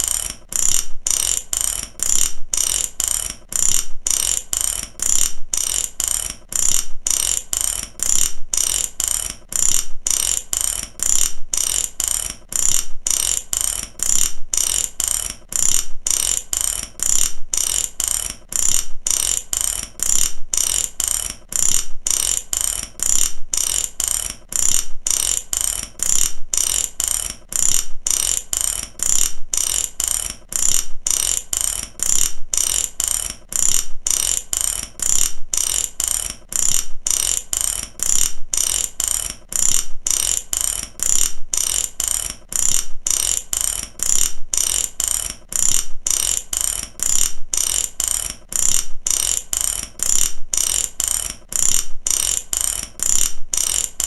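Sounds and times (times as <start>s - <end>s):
ratchet clicking: 0.0s - 54.0s.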